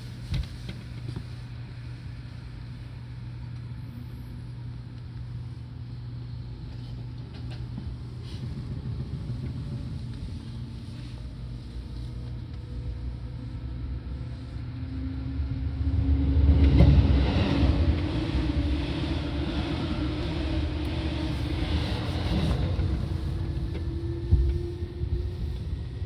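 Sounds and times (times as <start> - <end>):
rising train whine: 0.0 - 26.0
train wheels rumbling on rail: 4.4 - 26.0.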